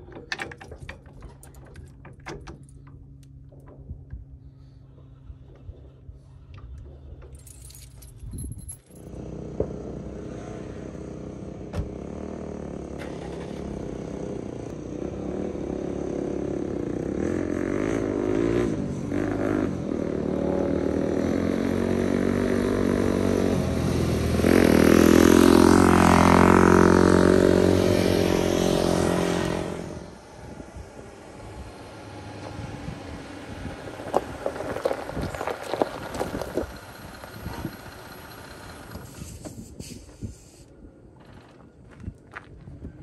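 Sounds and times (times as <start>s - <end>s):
vehicle engine running: 0.0s - 40.5s.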